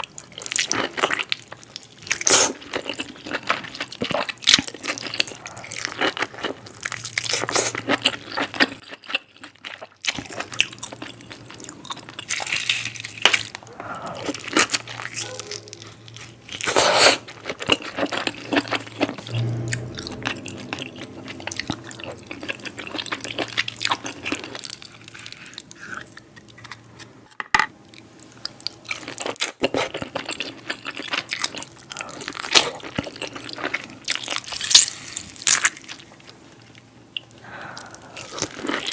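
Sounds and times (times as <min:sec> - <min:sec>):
chewing: 0:00.2 - 0:19.9, 0:20.7 - 0:27.1, 0:28.2 - 0:38.9.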